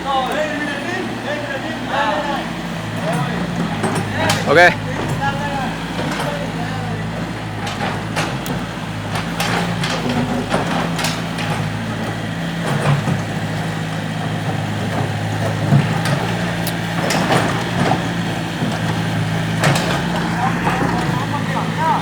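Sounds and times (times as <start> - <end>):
excavator engine running: 0.0 - 22.0
sharp knocks and clanks: 2.1 - 22.0.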